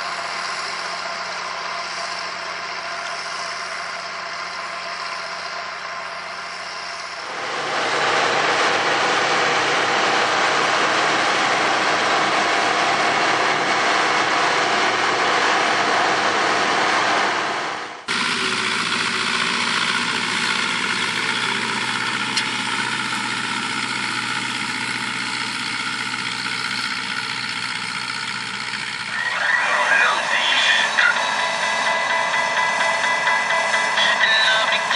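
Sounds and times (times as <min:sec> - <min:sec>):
machine engine running: 0:00.0 - 0:34.9.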